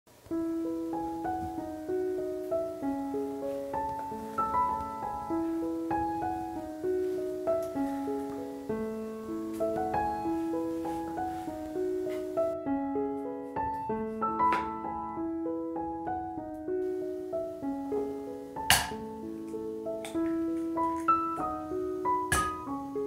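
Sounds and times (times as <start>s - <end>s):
gentle piano melody: 0.1s - 23.0s.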